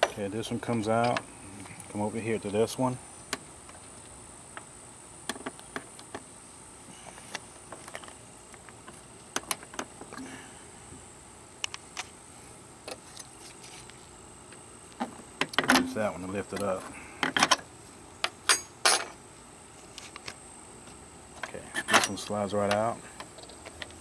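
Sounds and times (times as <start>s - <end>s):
faint high-pitched whine: 0.0s - 24.0s.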